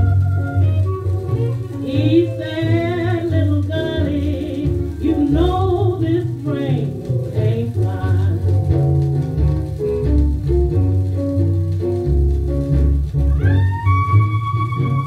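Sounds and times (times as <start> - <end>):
old blues record: 0.0 - 15.0
plucked double bass: 0.0 - 15.0.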